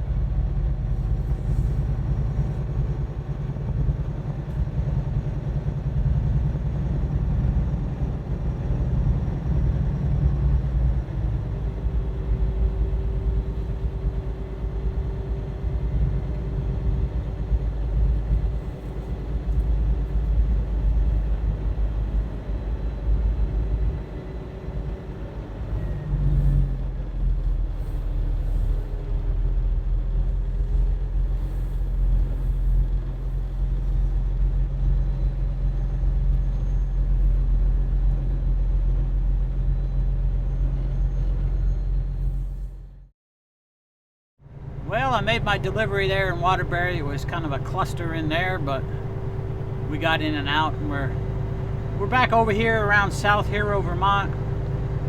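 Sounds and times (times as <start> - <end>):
truck diesel engine rumble: 0.0 - 43.1, 44.5 - 55.0
road noise: 8.8 - 42.9, 44.4 - 55.0.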